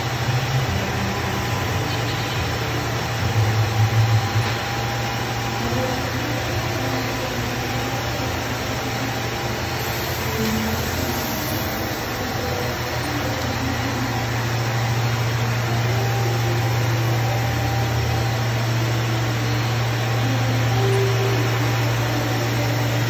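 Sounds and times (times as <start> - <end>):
machinery hum: 0.0 - 23.0.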